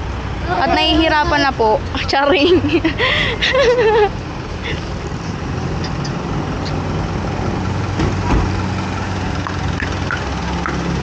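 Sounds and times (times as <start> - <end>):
vehicle engines idling and running: 0.0 - 11.0.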